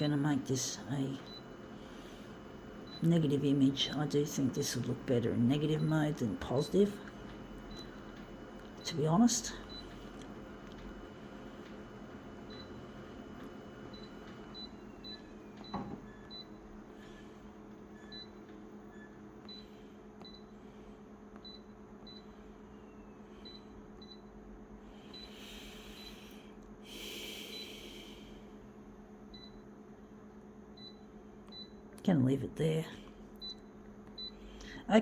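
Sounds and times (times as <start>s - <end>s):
photocopier humming: 0.0s - 35.0s.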